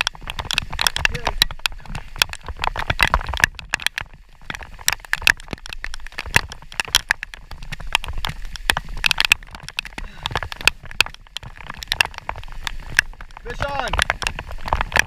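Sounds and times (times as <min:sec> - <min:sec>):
raindrops ticking: 0:00.0 - 0:15.0.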